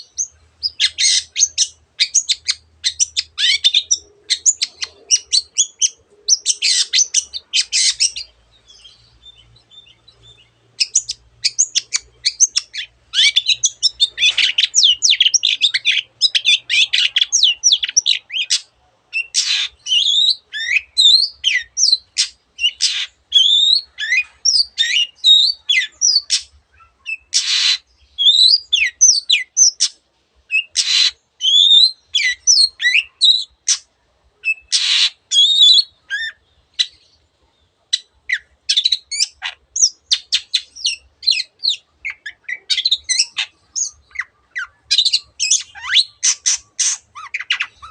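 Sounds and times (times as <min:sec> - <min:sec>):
bird singing chattering whistles: 0:00.0 - 0:37.2, 0:37.9 - 0:47.9
harsh rasping bird calls: 0:00.0 - 0:47.9.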